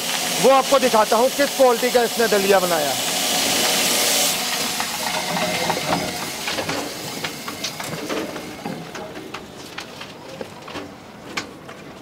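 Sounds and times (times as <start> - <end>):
grinding machine whirring: 0.0 - 9.9.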